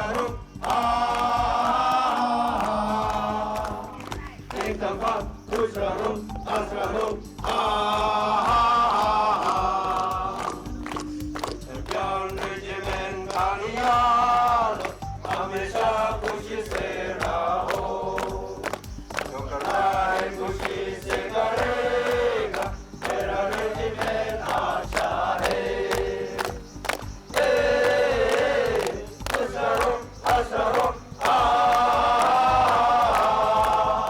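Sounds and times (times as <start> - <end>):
musical backing: 0.0 - 34.0
voices singing together: 0.0 - 34.0.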